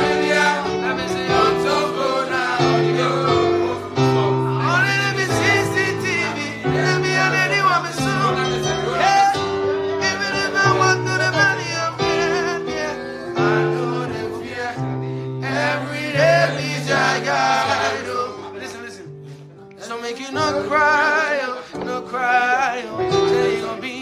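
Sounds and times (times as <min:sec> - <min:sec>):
man singing: 0:00.0 - 0:19.1, 0:19.8 - 0:24.0
electronic keyboard chords: 0:00.0 - 0:24.0.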